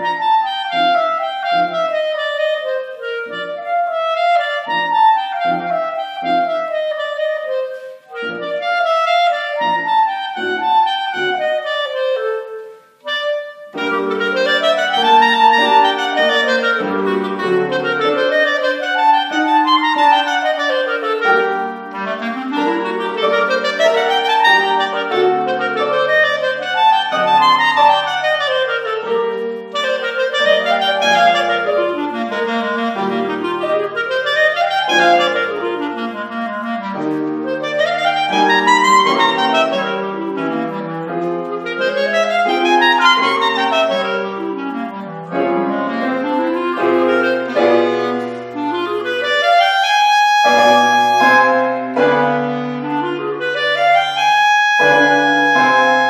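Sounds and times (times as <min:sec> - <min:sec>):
solo clarinet melody: 0:00.0 - 0:56.0.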